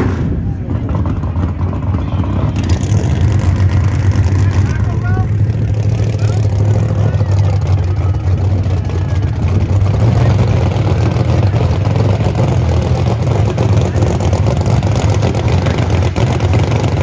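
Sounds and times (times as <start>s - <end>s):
car engine running: 0.3s - 17.0s.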